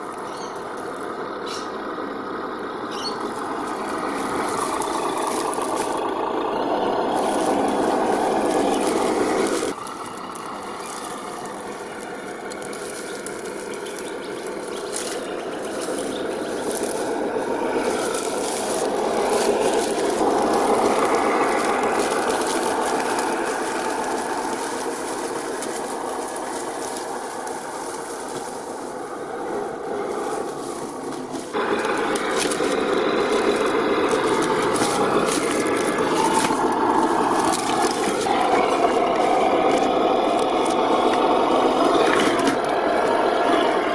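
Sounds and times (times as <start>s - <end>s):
tyres scraping on rocks and leaves: 0.0s - 43.9s.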